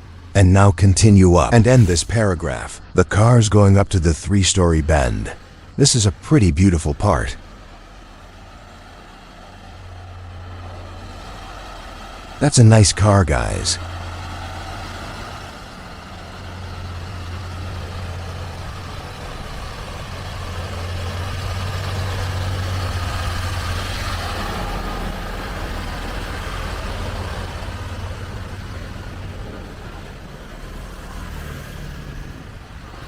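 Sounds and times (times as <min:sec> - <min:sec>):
heavy diesel truck engine: 0:00.0 - 0:33.0.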